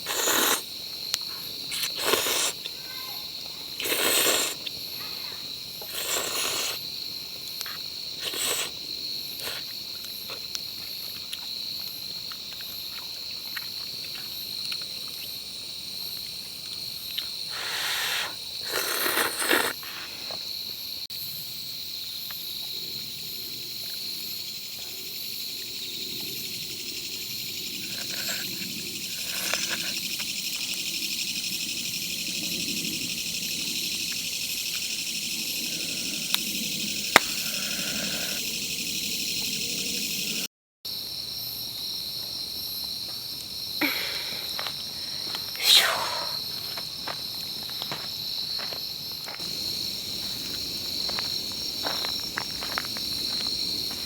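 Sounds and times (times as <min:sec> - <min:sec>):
chorus of crickets and insects: 0:00.0 - 0:54.0.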